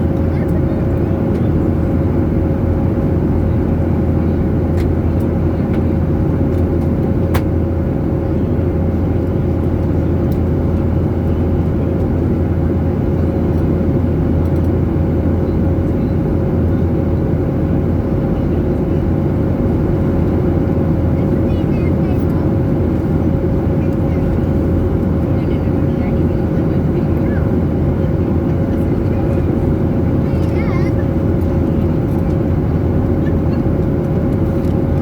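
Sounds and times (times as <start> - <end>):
jet airliner cabin drone: 0.0 - 35.0.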